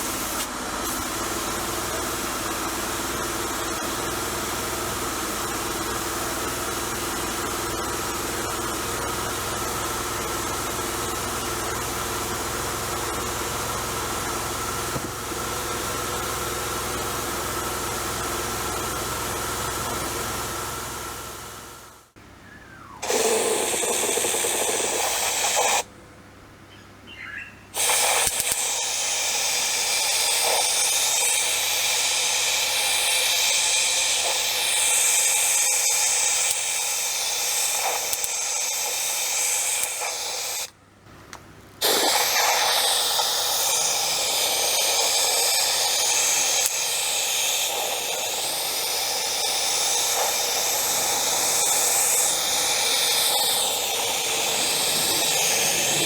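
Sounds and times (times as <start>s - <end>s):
compressed-air tool hissing: 0.0s - 20.2s, 23.0s - 25.9s, 27.7s - 40.8s, 41.8s - 56.0s.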